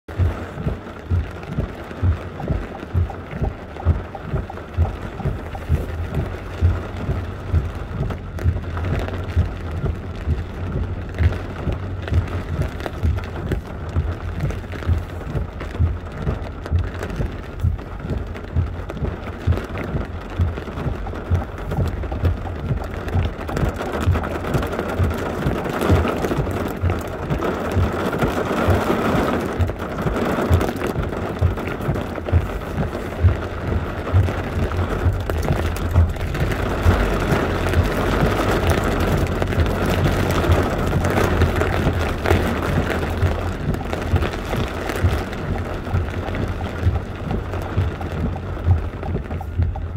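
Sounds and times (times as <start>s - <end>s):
rain drumming on car roof: 0.0s - 49.9s.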